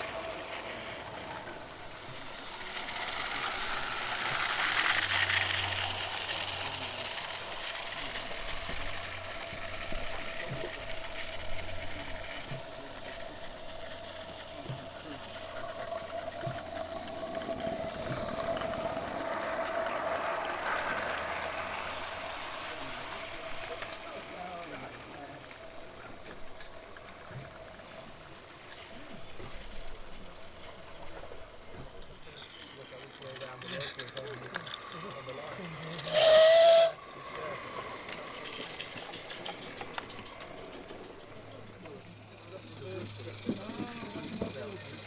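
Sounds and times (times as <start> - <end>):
steam hiss: 0.0 - 33.0, 33.8 - 42.0
steam locomotive rattle: 0.0 - 45.0
wheels clicking on track: 0.0 - 45.0.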